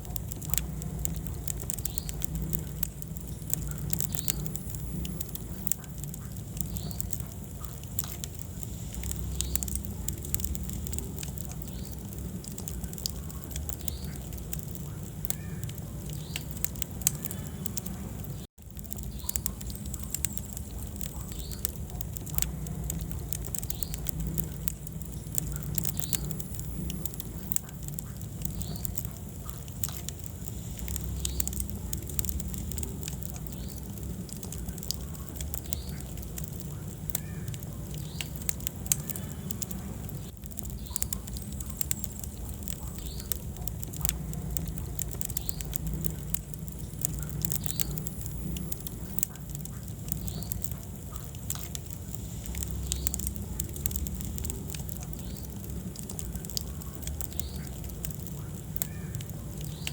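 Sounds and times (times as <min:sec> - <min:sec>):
fire crackling and popping: 0:00.0 - 0:59.9
fire rumbling in fireplace: 0:00.0 - 0:59.9.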